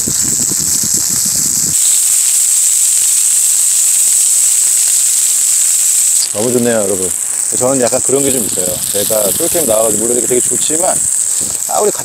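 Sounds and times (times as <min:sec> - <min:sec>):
low crackling: 0:00.0 - 0:12.0
meat sizzling on a grill: 0:00.0 - 0:12.0.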